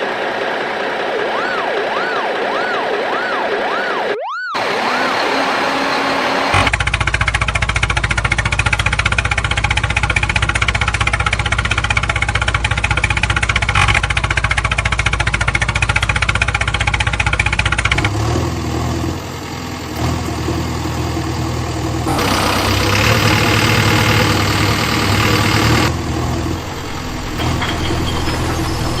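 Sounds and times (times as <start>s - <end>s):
second engine sound: 0.0s - 29.0s
engine chugging: 4.6s - 29.0s.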